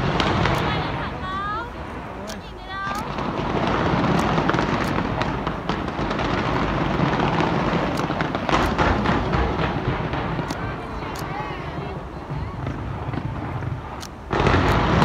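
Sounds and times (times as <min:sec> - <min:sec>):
fireworks bangs and crackling: 0:00.0 - 0:15.0
sharp fireworks cracks: 0:00.0 - 0:15.0.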